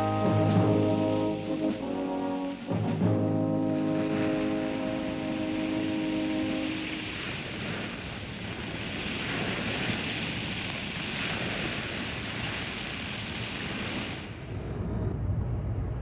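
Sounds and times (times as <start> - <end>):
sea waves rushing: 0.0 - 16.0
wind: 0.0 - 16.0.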